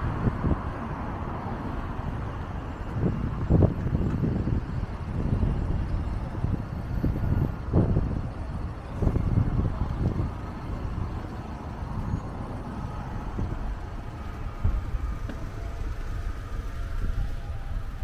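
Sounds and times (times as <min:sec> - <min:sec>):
road traffic: 0:00.0 - 0:18.0
wind buffeting microphone: 0:00.0 - 0:18.0.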